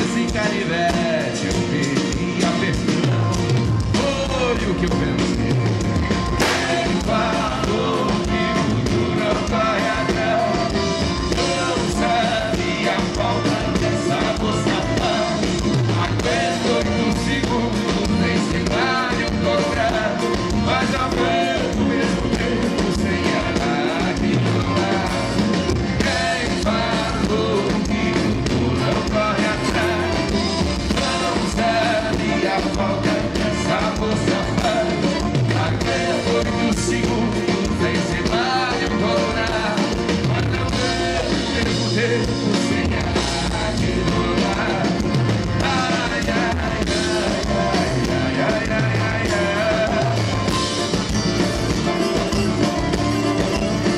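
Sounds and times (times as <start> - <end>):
live band music: 0.0 - 53.9.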